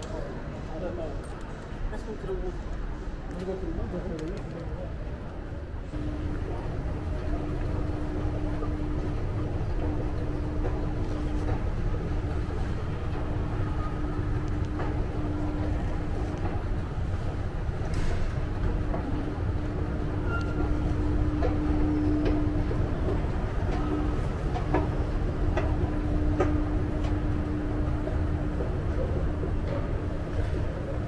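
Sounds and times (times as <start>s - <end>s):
city background rumble: 1.5s - 31.0s
steady hum: 5.8s - 31.0s.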